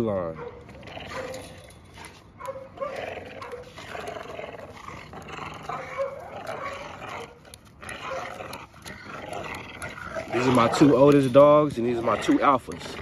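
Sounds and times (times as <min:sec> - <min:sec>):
dogs growling in play: 0:00.6 - 0:13.0.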